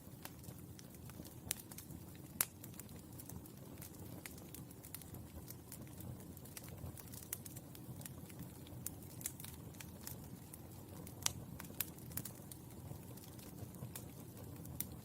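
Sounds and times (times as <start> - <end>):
charcoal crackling and popping: 0.0 - 15.0.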